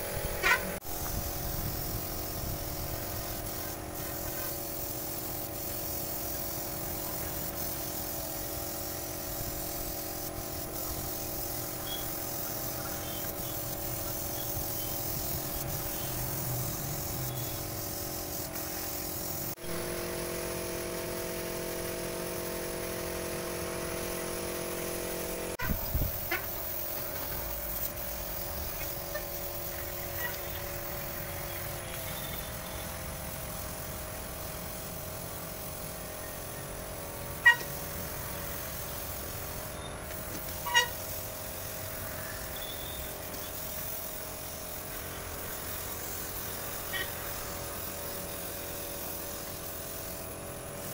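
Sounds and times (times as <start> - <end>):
air compressor humming: 0.0 - 50.9
paint spray gun hissing: 0.0 - 50.9.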